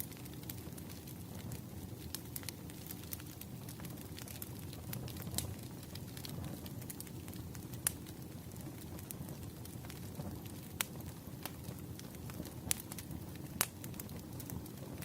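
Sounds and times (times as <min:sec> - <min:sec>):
fire popping and snapping: 0:00.0 - 0:15.0
rumble of flames: 0:00.0 - 0:15.0.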